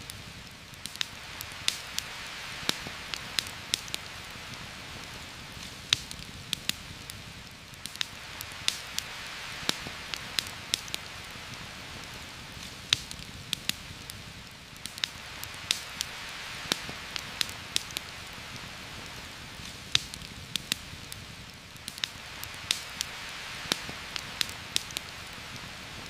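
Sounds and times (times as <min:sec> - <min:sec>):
campfire crackling: 0:00.0 - 0:26.0
heavy rain falling: 0:00.0 - 0:26.0.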